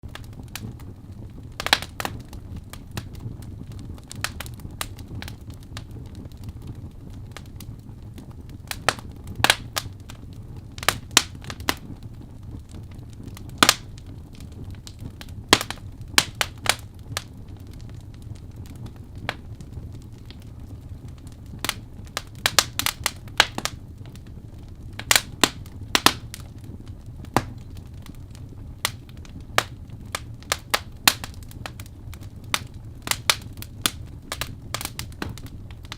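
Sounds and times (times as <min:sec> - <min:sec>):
firewood crackling and popping: 0:00.0 - 0:35.9.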